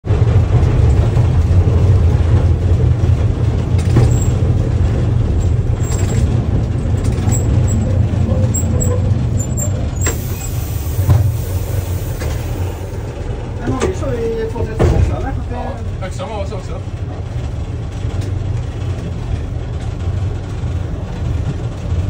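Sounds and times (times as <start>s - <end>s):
diesel locomotive engine rumbling: 0.0s - 22.0s.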